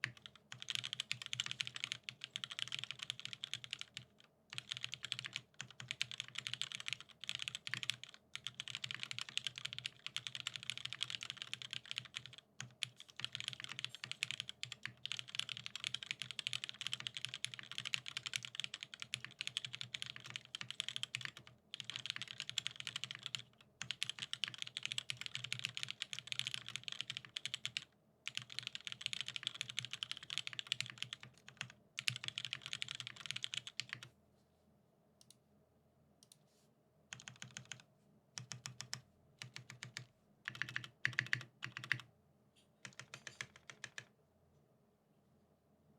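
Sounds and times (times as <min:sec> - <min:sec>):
rapid typing on a keyboard: 0:00.0 - 0:34.1, 0:37.1 - 0:37.8, 0:38.4 - 0:42.1, 0:42.8 - 0:44.1.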